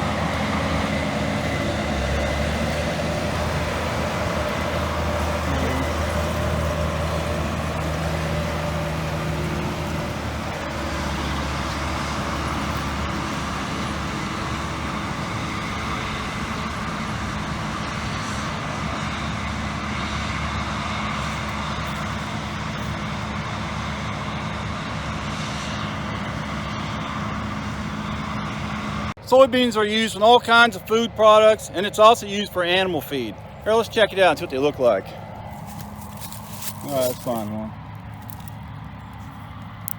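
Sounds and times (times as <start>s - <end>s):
diesel farm machinery running: 0.0s - 39.9s.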